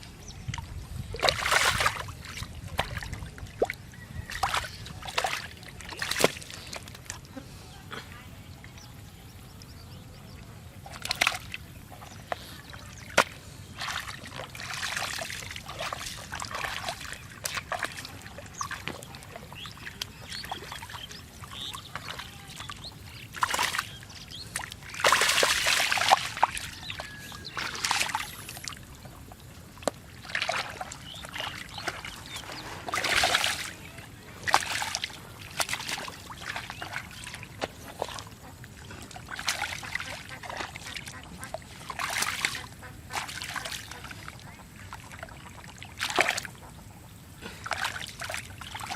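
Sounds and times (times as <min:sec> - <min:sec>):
hands splashing in muddy water: 0:00.5 - 0:07.3, 0:10.8 - 0:29.0, 0:29.7 - 0:46.6, 0:47.4 - 0:48.9.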